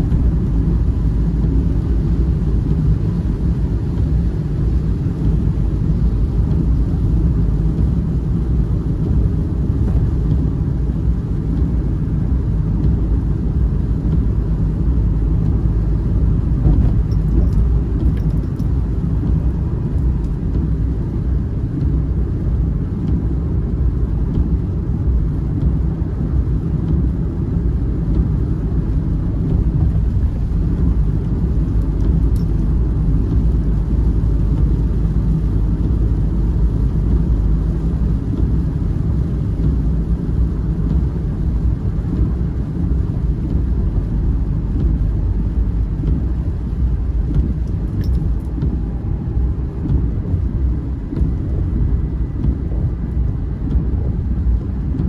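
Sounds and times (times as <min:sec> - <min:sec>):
steady low rumbling: 0:00.0 - 0:55.0.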